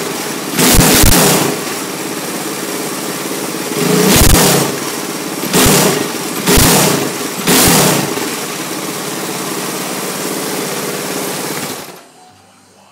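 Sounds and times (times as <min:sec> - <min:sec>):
kart engine revving: 0:00.0 - 0:12.0
kart engine idling: 0:00.0 - 0:12.1.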